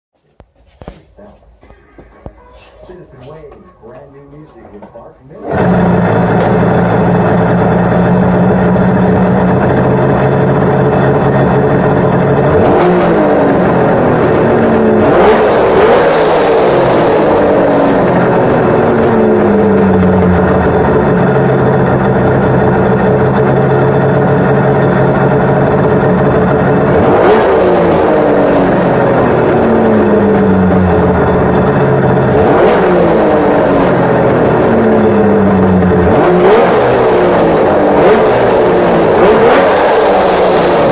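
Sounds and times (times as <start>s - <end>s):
snowmobile engine idling and revving: 3.1s - 40.9s.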